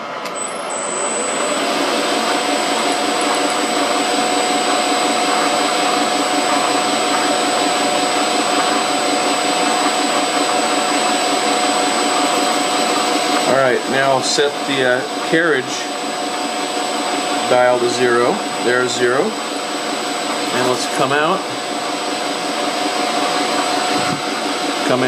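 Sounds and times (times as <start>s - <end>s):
metal lathe whining: 0.2s - 25.0s.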